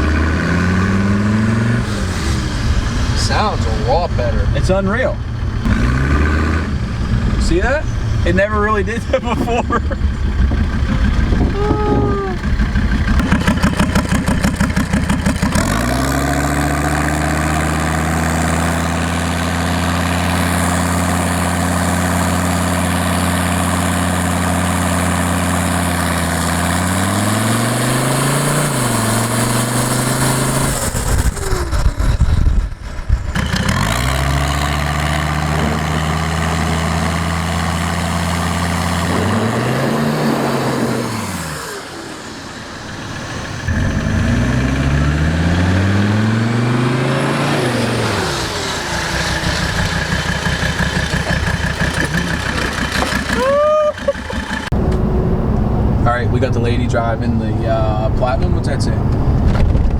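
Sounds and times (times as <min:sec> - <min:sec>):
diesel car engine running: 0:00.0 - 0:59.9.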